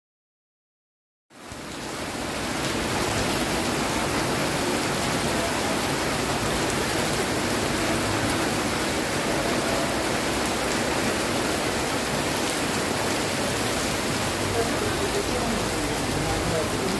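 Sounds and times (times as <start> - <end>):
rain falling on wet paving: 1.3 - 16.9.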